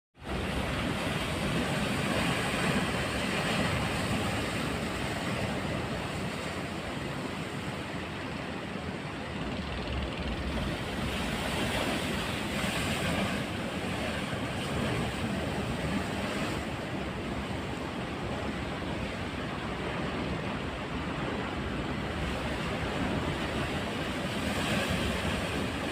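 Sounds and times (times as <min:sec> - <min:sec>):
waves surging: 0:00.2 - 0:25.9
wind buffeting microphone: 0:00.2 - 0:25.9.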